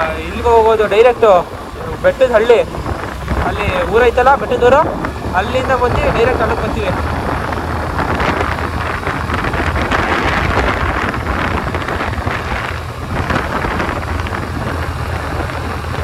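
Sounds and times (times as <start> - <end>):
scooter engine rumbling: 0.0 - 16.0
wind buffeting microphone: 0.0 - 16.0.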